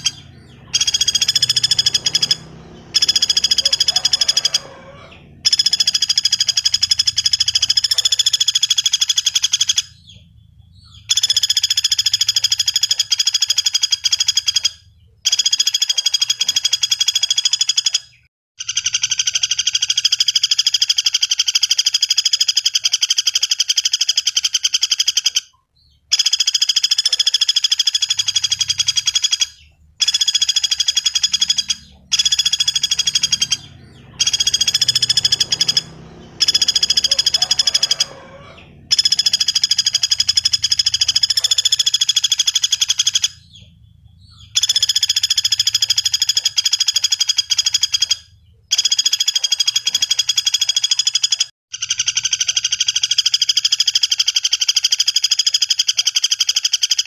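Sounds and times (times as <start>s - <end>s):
woodpecker trilling rattles: 0.0s - 57.0s.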